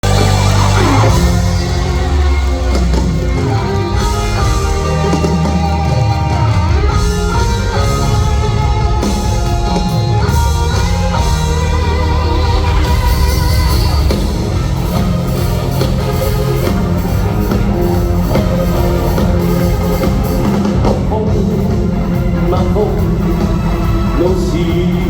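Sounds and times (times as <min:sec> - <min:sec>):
instrumental rock music: 0:00.0 - 0:25.0.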